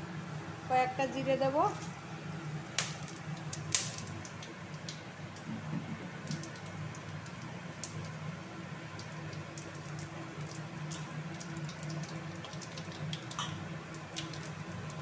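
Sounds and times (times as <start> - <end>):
low steady hum: 0.0 - 15.0
spices crackling in hot oil: 0.8 - 15.0.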